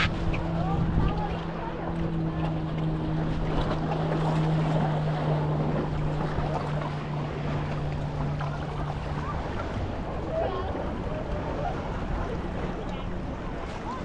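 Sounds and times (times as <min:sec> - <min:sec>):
constant low hum: 0:00.0 - 0:14.0
waves on the shore: 0:00.0 - 0:14.0
wind on microphone: 0:00.0 - 0:14.0.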